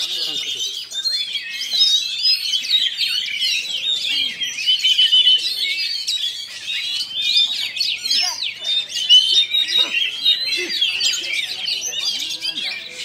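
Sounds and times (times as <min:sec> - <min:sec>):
bird singing whistles and chirps: 0:00.0 - 0:13.0.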